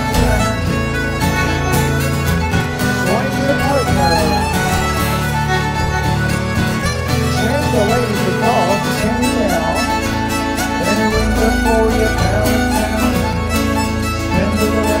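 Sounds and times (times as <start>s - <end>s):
baritone guitar chords and bass: 0.0s - 15.0s
nyckelharpa bowing lively melody: 0.0s - 15.0s.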